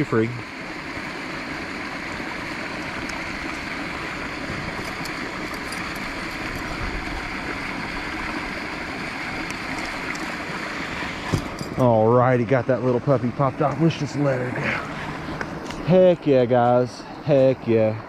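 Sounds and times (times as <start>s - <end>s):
flowing creek water: 0.0s - 18.0s.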